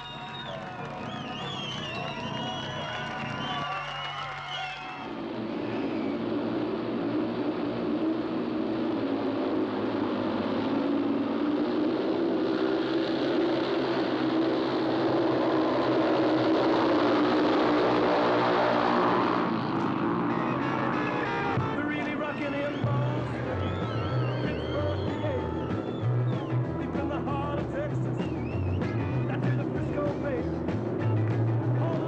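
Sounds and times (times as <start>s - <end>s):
motorcycle engines racing: 0.0s - 32.0s.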